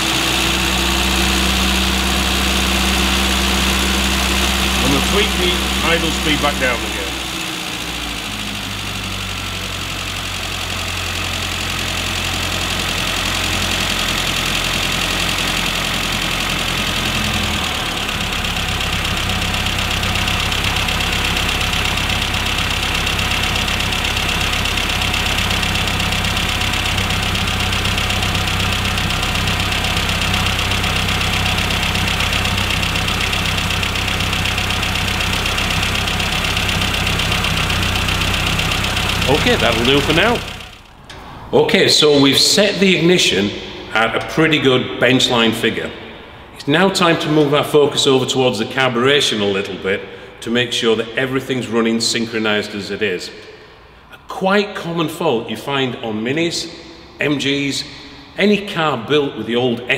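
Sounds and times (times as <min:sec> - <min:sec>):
car engine idling: 0:00.0 - 0:50.4.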